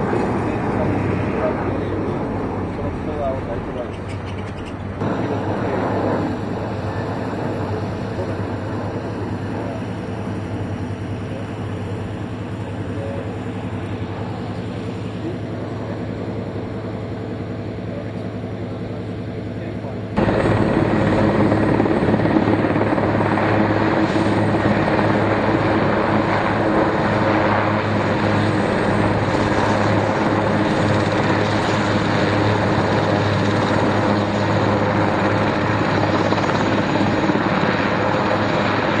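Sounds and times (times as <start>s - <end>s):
helicopter hovering: 0.0s - 39.0s.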